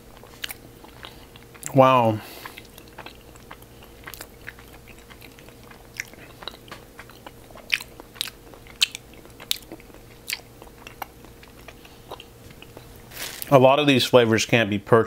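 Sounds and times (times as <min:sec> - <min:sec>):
man chewing with mouth clicks: 0:00.0 - 0:13.4.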